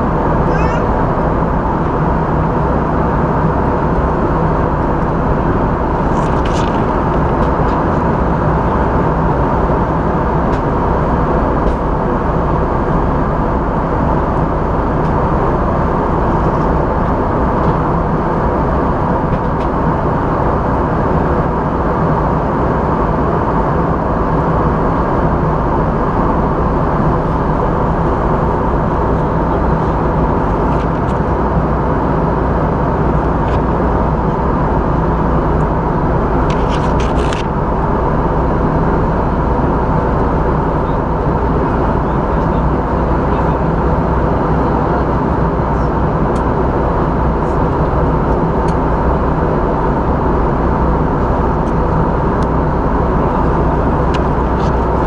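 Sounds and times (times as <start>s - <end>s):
airplane cabin engine noise: 0.0s - 55.0s.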